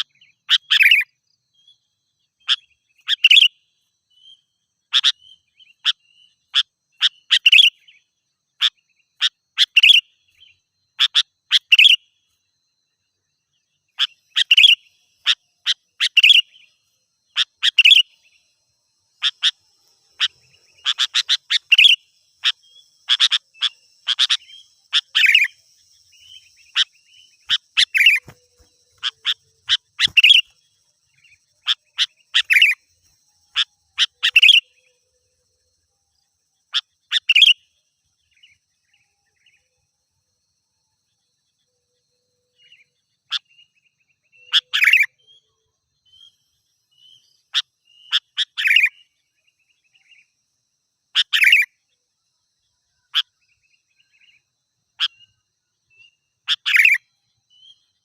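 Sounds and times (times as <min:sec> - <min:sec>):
bulbul singing: 0:00.0 - 0:12.4, 0:13.2 - 0:39.7, 0:42.6 - 0:50.3, 0:53.0 - 0:58.0.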